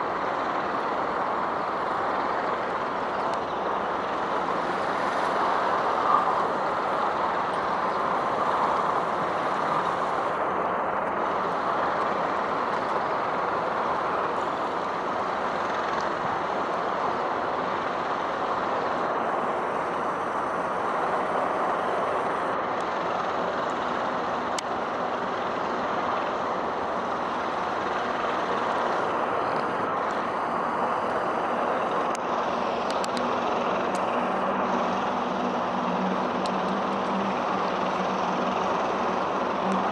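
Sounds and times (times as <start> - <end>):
road traffic hum: 0.0 - 39.9.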